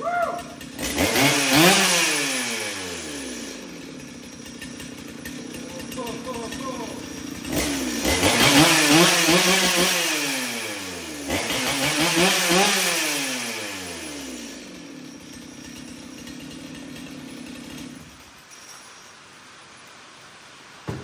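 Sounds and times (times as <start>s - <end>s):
chainsaw revving and idling: 0.0s - 18.4s.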